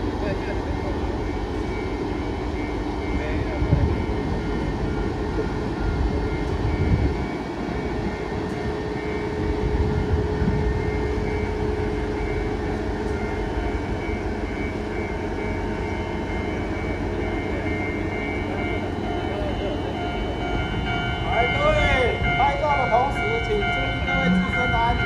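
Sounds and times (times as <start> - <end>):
locomotive engine rumbling and whining: 0.0 - 25.0.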